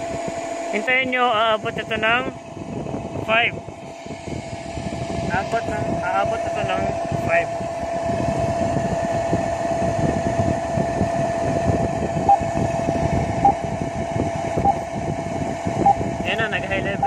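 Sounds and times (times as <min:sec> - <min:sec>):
engine-room machinery hum: 0:00.0 - 0:17.0.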